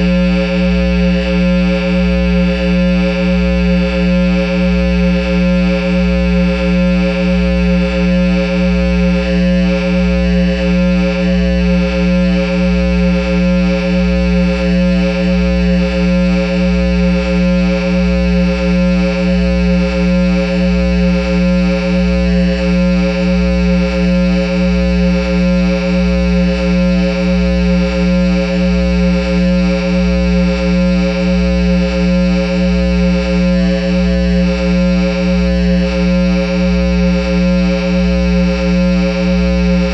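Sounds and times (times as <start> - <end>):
guitar amplifier low drone: 0.0 - 39.9.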